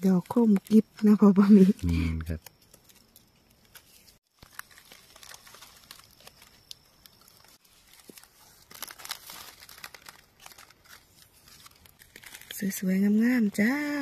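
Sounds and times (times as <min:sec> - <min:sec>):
hands rustling through dry leaves: 0:01.4 - 0:13.0.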